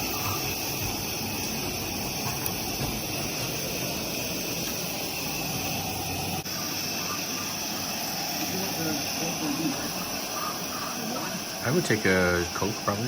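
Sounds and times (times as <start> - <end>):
steam locomotives hissing and running: 0.0 - 13.0.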